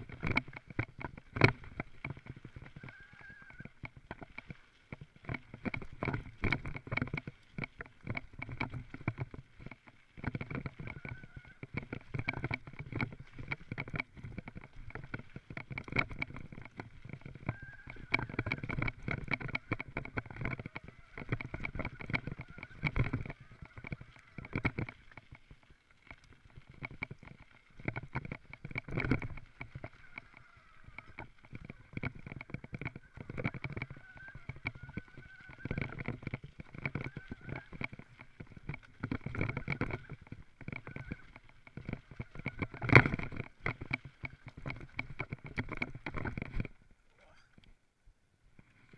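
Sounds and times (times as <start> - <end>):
mountain bike rattling on trail: 0.0 - 46.9.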